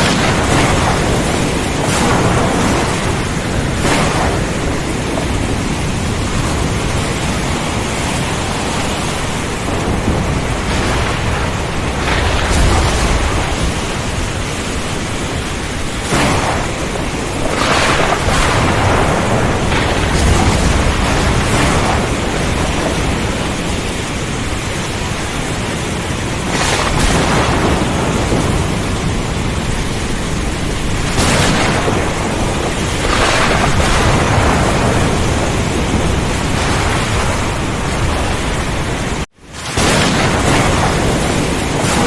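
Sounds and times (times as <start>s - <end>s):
heavy rain and wind: 0.0s - 42.0s
thunder cracks and rumbles: 0.0s - 42.0s.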